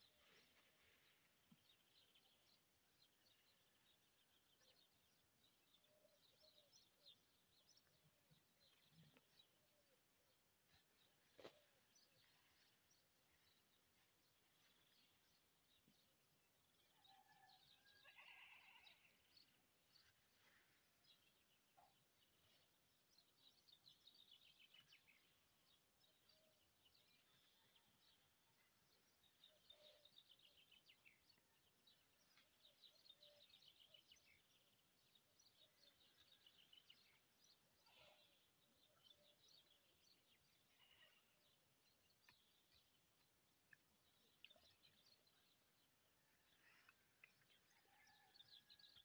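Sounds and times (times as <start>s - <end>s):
faint birds chirping and trilling: 0.0s - 49.0s.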